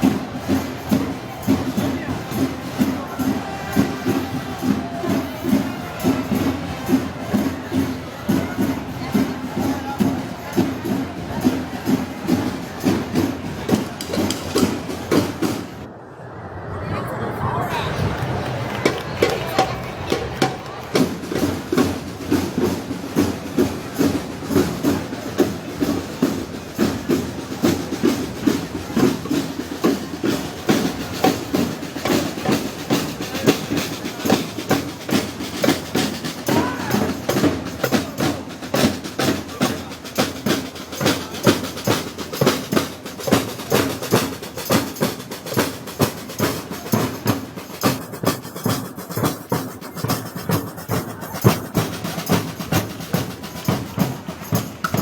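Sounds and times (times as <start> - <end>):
festival band music: 0.0 - 15.9, 17.6 - 55.0
percussion beat: 0.0 - 15.9, 17.9 - 55.0.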